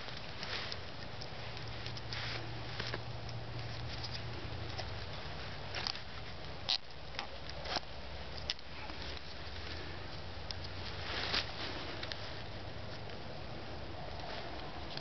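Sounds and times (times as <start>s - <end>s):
rustling of cord and leaves: 0.0s - 15.0s
sticks crackling: 0.0s - 15.0s.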